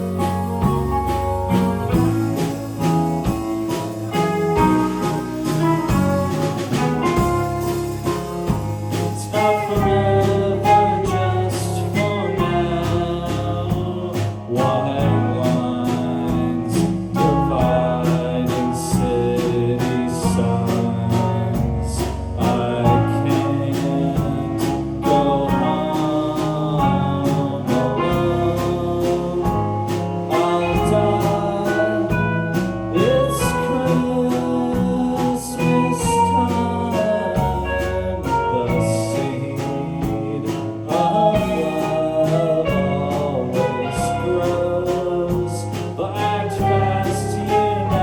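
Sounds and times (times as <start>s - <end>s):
guitar: 0.0s - 48.0s
live band music: 0.0s - 48.0s
person singing: 0.0s - 48.0s
steady drum beat: 0.0s - 48.0s.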